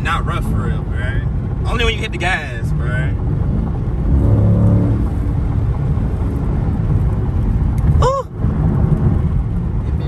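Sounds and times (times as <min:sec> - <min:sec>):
car engine and tyres droning: 0:00.0 - 0:10.0.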